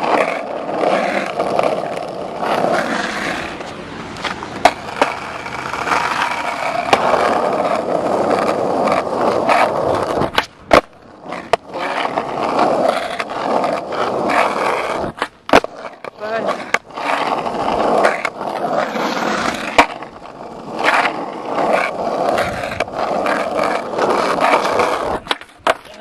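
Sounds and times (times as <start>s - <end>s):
skateboard clacks: 0.0s - 26.0s
skateboard wheels rolling on asphalt: 0.0s - 26.0s.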